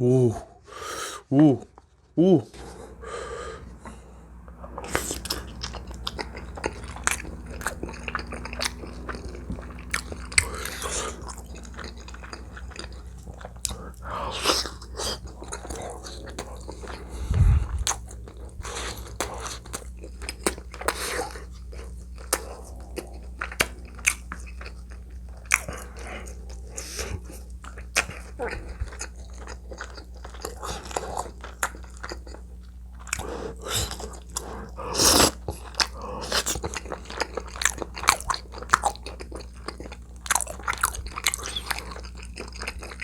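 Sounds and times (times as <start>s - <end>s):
person chewing with wet smacks: 3.8s - 43.0s.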